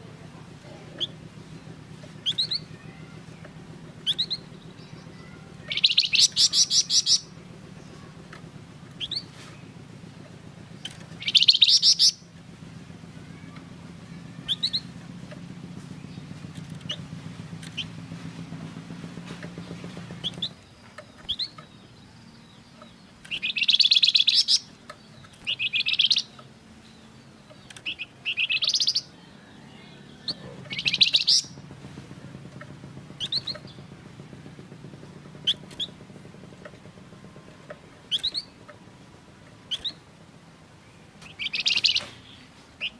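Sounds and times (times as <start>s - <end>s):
low steady hum: 0.0s - 42.9s
songbird rattling trills: 0.1s - 42.9s.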